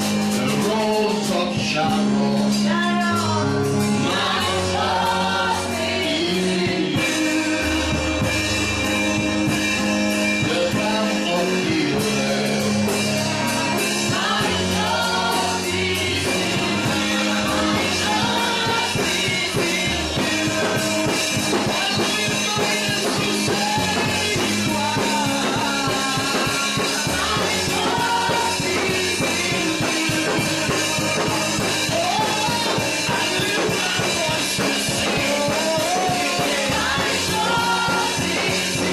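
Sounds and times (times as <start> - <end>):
steady drum beat: 0.0 - 38.9
sustained bass notes: 0.0 - 38.9
worship band music with singing: 0.0 - 38.9.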